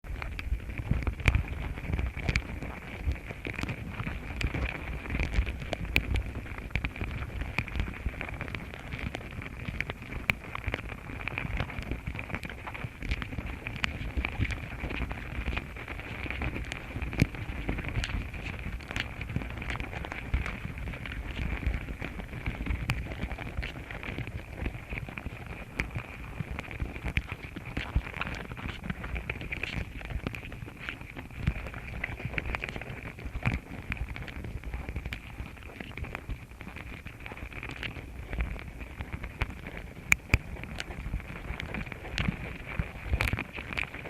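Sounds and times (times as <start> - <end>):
small clicks and crackles: 0.0 - 44.0
wind rumble on microphone: 0.0 - 44.0.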